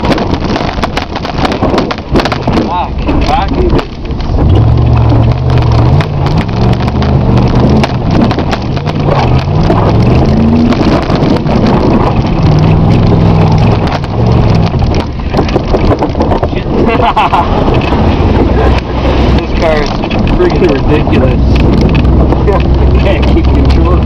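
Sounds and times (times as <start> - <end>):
car engine revving: 0.0 - 24.0
car knocks and rattles: 0.0 - 24.0.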